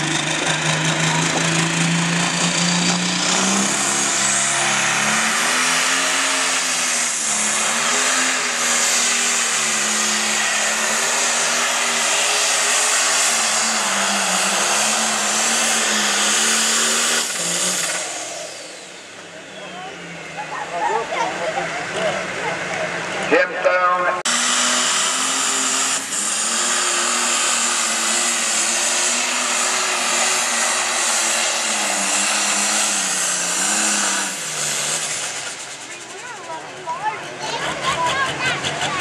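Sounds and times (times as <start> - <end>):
diesel tractor engine at full throttle: 0.0 - 39.0
high turbo whine: 0.0 - 39.0.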